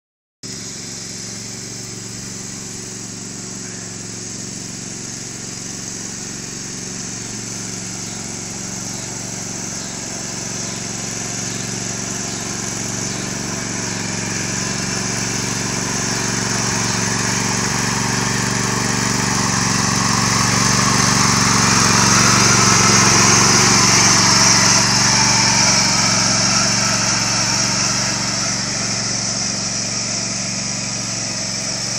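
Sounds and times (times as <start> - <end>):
riding lawn mower engine running: 0.4 - 31.9.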